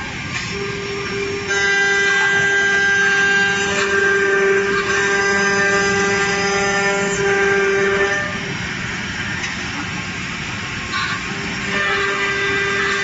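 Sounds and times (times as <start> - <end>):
cnc machine spindle whining: 0.0 - 13.0.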